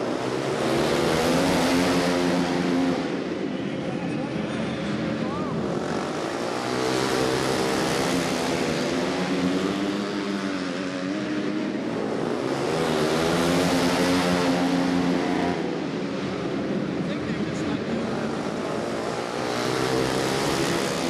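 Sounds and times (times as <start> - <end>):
motorcycles racing engines revving: 0.0 - 21.0.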